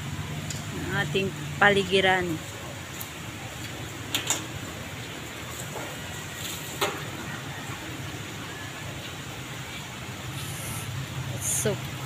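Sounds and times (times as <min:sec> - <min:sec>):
rain and wind hissing: 0:00.0 - 0:12.0.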